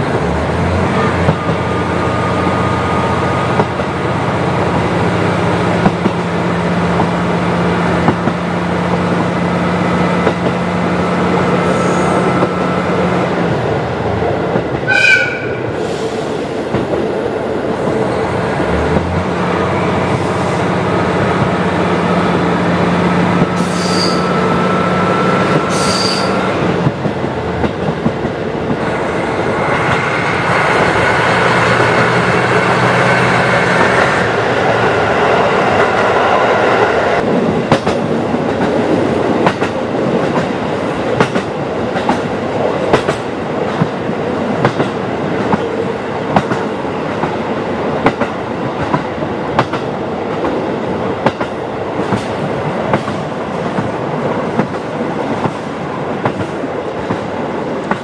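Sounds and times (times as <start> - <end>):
wheel and rail rumble: 0.0 - 58.0.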